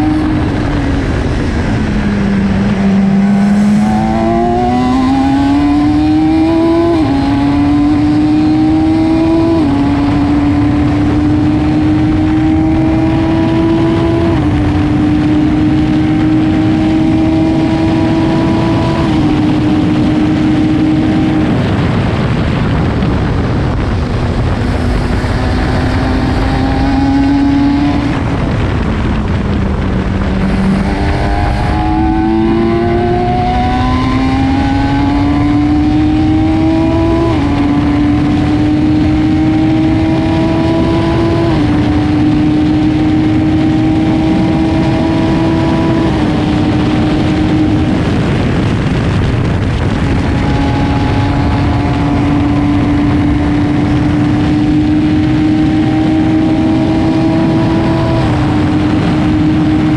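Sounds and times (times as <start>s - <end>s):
supercar engine revving: 0.0s - 59.9s
wind and road noise: 0.0s - 59.9s.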